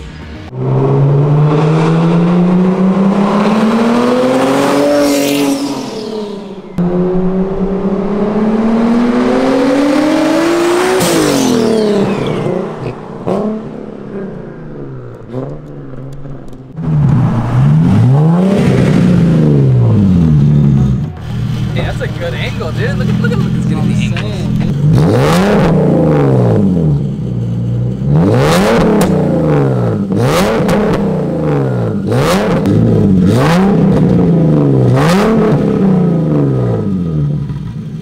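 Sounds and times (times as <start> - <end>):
car engine accelerating hard: 0.0 - 38.0.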